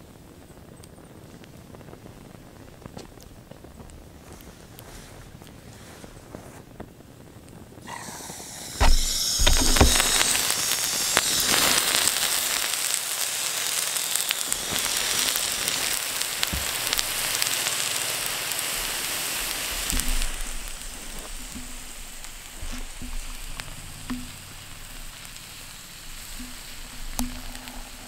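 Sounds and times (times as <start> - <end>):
fire hissing and sizzling: 0.0 - 28.0.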